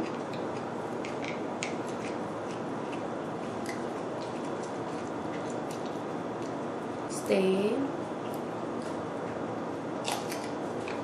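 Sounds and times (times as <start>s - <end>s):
chewing crunches: 0.0s - 6.7s, 8.2s - 9.4s, 10.0s - 11.0s.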